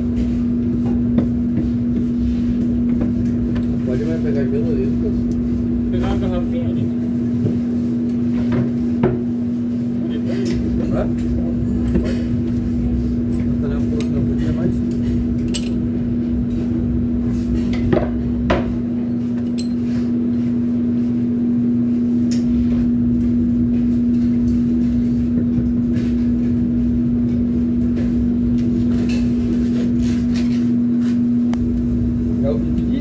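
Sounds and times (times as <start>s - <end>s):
kitchen equipment humming: 0.0s - 33.0s.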